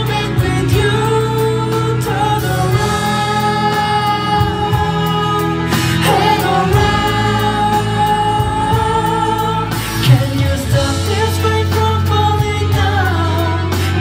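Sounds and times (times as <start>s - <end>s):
men singing pop song live: 0.0s - 14.0s.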